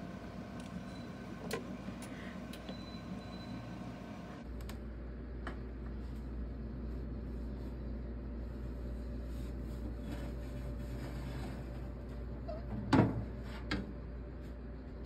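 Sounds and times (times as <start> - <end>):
oven humming: 0.0 - 15.0.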